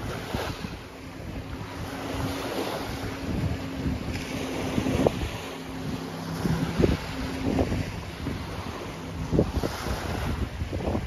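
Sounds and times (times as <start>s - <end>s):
small waves lapping on shore: 0.0s - 11.0s
wind buffeting microphone: 0.0s - 11.0s.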